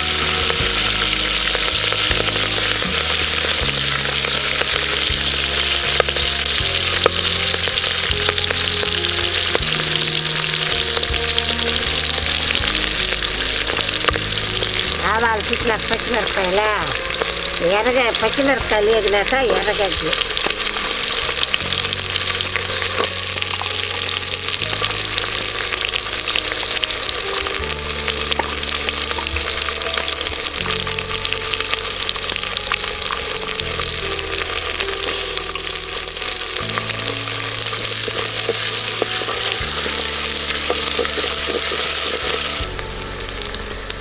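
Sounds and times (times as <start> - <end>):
onions sizzling in hot oil: 0.0 - 44.0
soft background music: 0.0 - 44.0.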